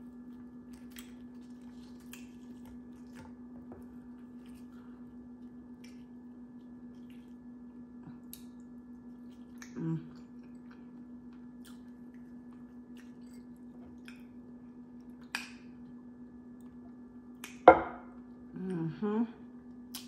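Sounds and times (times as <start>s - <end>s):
chewing crispy food: 0.0s - 17.6s
steady low hum: 0.0s - 20.0s.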